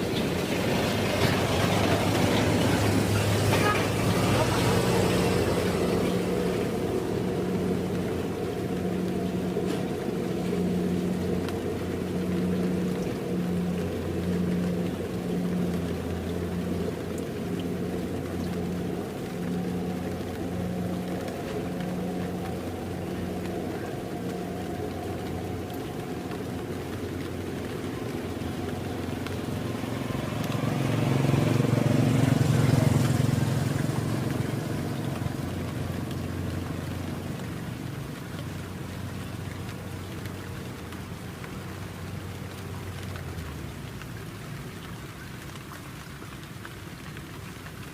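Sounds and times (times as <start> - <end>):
diesel engine droning: 0.0 - 44.8.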